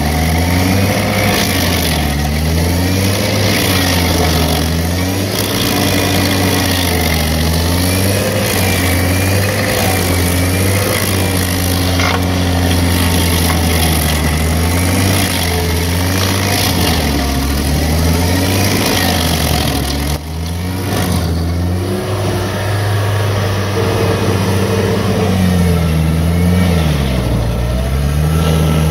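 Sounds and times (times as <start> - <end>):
cutter wheel grinding wood: 0.0 - 28.9
stump grinder engine under load: 0.0 - 28.9.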